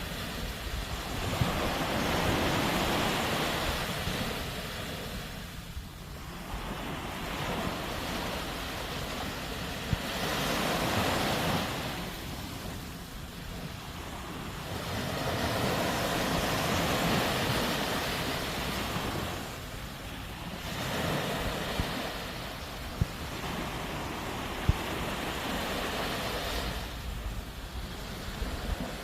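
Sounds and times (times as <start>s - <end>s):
sea waves breaking on shore: 0.0s - 29.0s.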